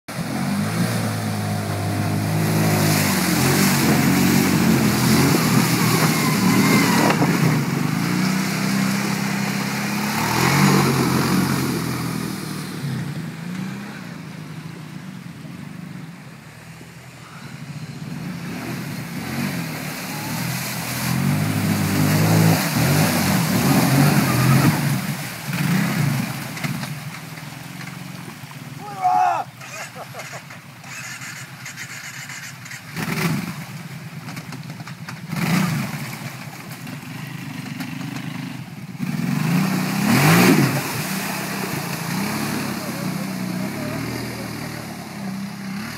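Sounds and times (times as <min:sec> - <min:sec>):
water splashing: 0:00.1 - 0:15.2, 0:18.0 - 0:45.9
quad bike engines revving: 0:00.1 - 0:45.9.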